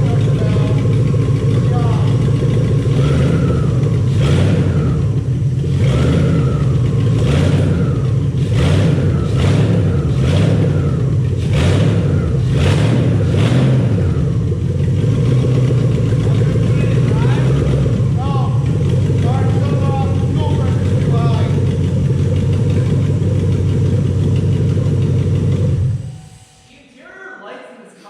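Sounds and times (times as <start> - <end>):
engine droning: 0.0 - 26.9.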